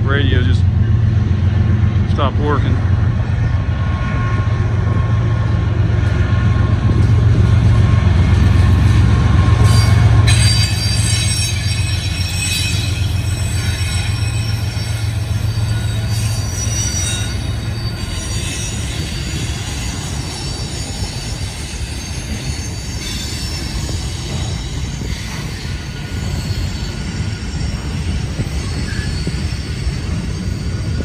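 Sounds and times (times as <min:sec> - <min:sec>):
freight train low rumble: 0:00.0 - 0:31.0
train wheels squealing on rail: 0:00.1 - 0:31.0.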